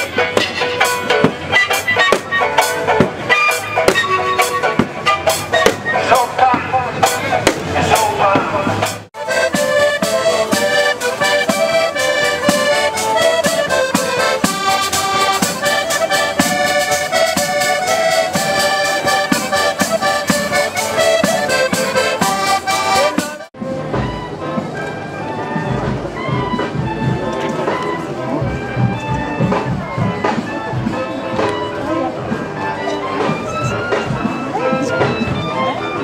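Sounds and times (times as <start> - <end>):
accordion playing lively tune: 0.0 - 36.0
strummed small guitars: 0.0 - 36.0.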